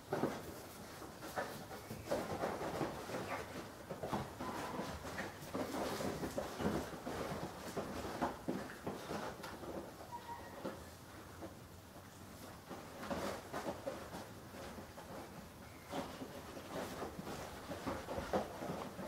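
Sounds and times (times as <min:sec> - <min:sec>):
paws scrabbling on tiled floor: 0:00.0 - 0:19.0.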